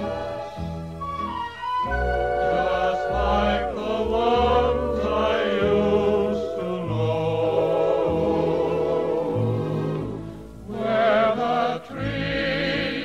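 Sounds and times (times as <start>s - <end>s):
low sustained bass notes: 0.0s - 13.0s
voices singing in harmony: 0.0s - 13.0s.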